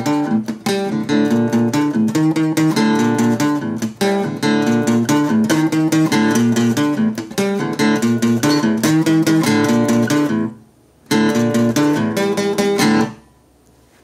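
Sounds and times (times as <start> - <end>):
acoustic guitar strumming: 0.0 - 13.5.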